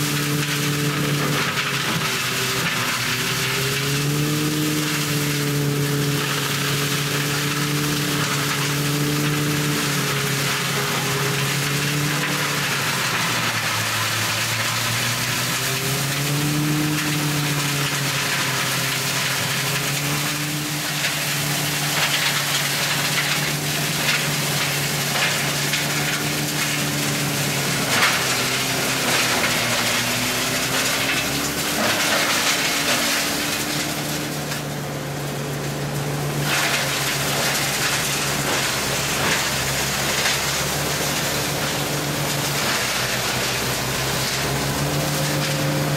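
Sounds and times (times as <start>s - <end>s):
tractor engine under load: 0.0s - 45.9s
wood crackling and snapping: 0.0s - 45.9s.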